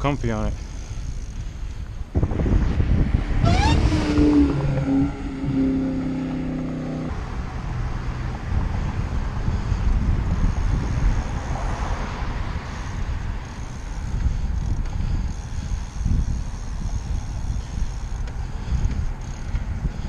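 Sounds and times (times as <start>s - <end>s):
road noise: 0.0s - 20.0s
wind on microphone: 0.8s - 20.0s.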